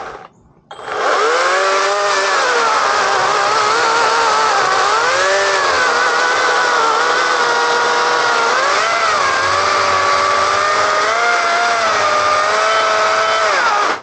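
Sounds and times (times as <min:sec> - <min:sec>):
electric chainsaw cutting: 0:00.0 - 0:14.0.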